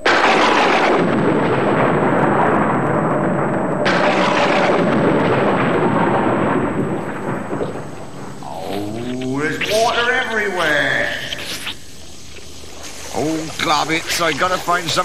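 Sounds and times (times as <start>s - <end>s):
sharp thunder clap: 0.0s - 12.1s
thunder rumble: 0.0s - 15.0s.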